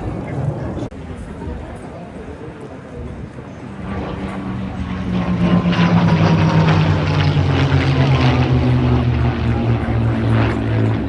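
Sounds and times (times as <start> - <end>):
propeller aircraft flying past: 0.0 - 11.0.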